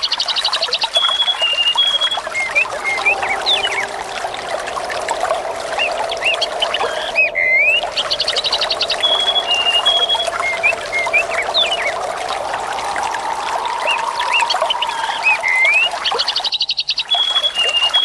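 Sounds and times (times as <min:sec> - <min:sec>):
songbirds chirping and trilling: 0:00.0 - 0:18.0
water trickling and splashing: 0:00.0 - 0:18.0.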